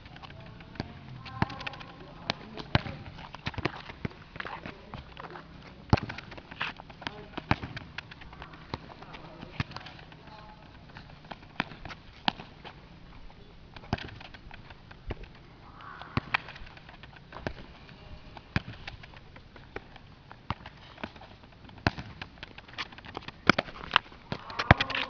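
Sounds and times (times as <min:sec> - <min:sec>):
shoe slapping ball: 0:00.0 - 0:12.8, 0:13.8 - 0:25.0
ball bouncing on concrete: 0:00.0 - 0:25.0
quick footsteps: 0:00.0 - 0:25.0.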